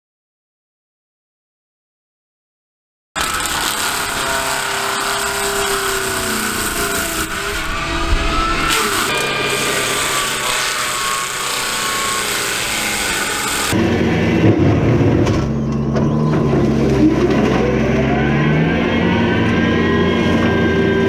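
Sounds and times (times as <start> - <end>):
brush mulcher machine whining: 3.2 - 21.0.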